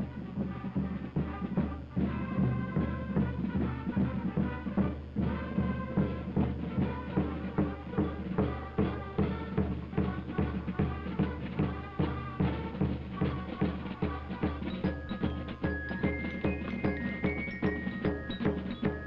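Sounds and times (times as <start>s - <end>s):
military band march: 0.0s - 19.0s
steady drum beat: 0.0s - 19.0s.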